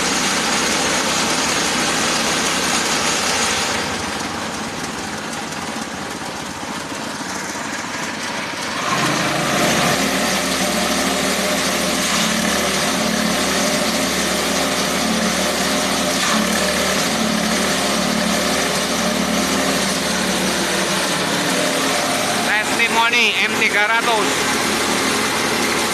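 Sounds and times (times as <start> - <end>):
small engine running: 0.0 - 25.9.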